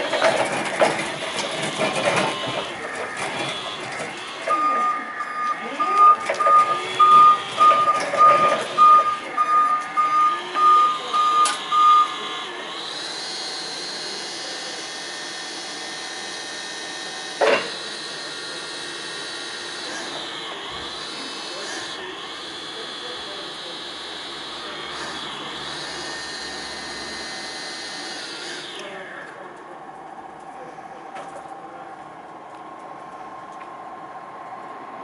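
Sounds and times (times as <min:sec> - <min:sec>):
forklift warning beeper: 0:00.0 - 0:29.4
hydraulic pump motor running: 0:00.0 - 0:30.2
electric drive whine: 0:00.0 - 0:31.7.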